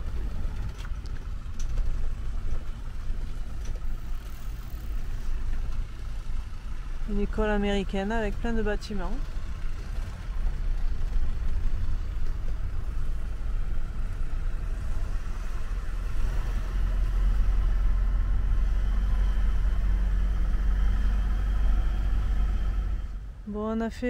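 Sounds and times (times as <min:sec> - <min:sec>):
faint engine hum: 0:00.0 - 0:24.0
low road rumble: 0:00.0 - 0:24.0.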